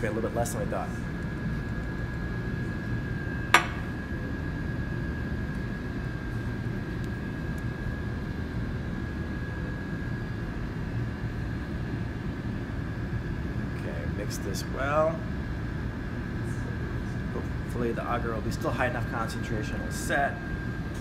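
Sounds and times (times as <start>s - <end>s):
ventilation hum: 0.0s - 21.0s.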